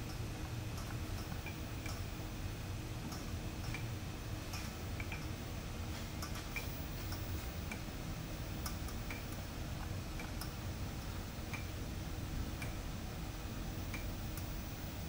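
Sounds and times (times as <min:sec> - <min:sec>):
machine axis drives humming: 0:00.0 - 0:15.0.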